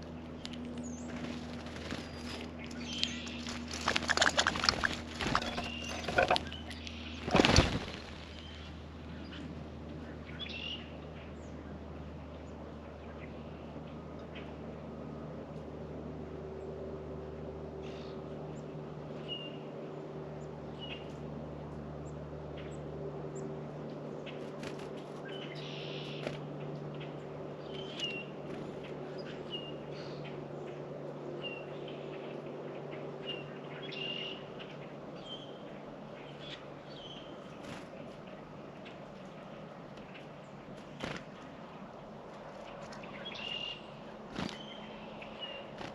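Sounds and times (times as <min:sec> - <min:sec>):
songbirds chirping: 0:00.0 - 0:15.3, 0:16.0 - 0:45.9
steady low hum: 0:00.0 - 0:45.9.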